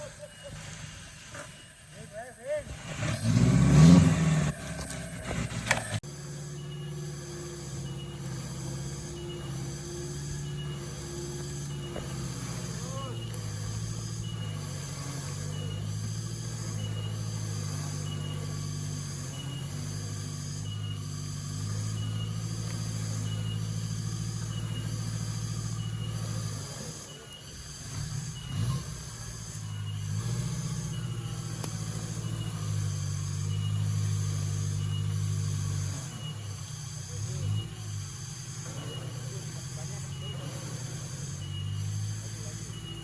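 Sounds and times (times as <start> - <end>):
engine low drone: 0.0 - 43.0.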